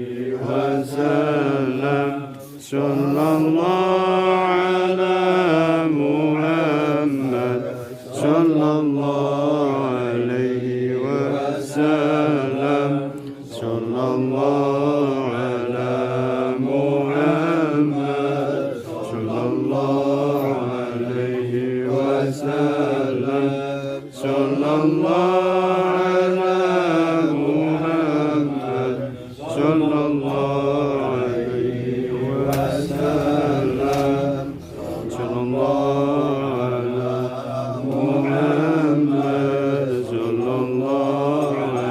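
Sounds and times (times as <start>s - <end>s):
voices chanting devotional song: 0.0s - 41.9s.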